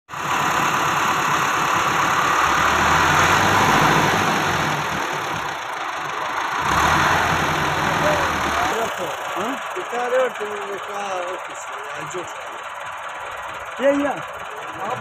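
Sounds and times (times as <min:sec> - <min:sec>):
tractor diesel engine running: 0:00.1 - 0:15.0.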